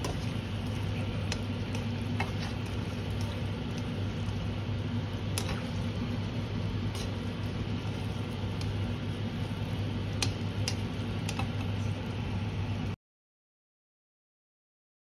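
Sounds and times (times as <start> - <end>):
food frying in a wok: 0.0 - 13.0
steady low hum: 0.0 - 13.0.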